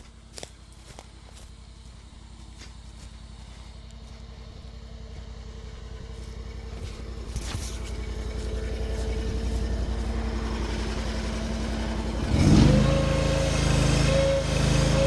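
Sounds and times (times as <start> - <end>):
skid steer engine revving: 0.0 - 15.0.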